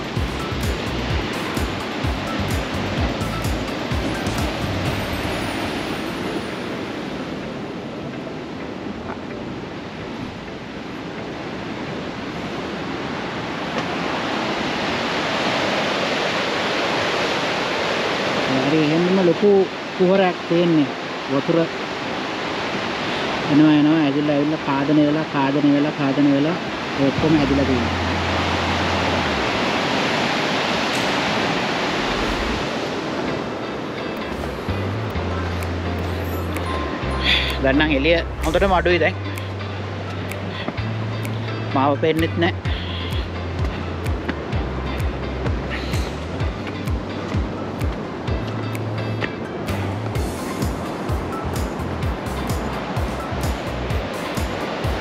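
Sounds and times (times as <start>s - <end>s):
surf washing against rocks: 0.0s - 41.4s, 42.0s - 55.0s.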